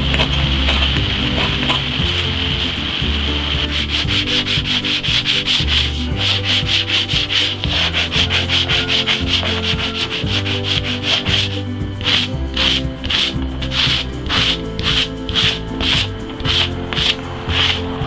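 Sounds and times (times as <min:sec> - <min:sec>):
sanding block rubbing on plastic: 0:00.2 - 0:18.0.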